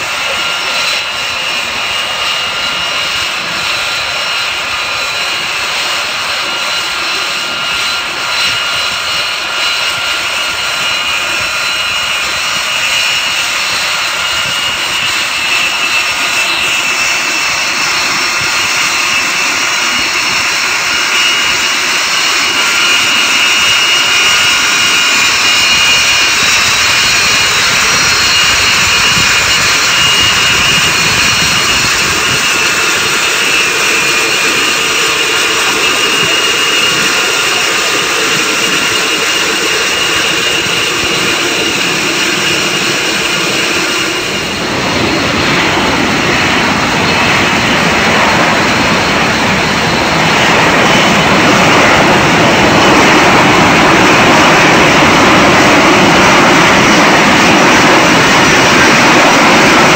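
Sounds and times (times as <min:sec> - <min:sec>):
jet engine with whining tones: 0:00.0 - 0:59.9.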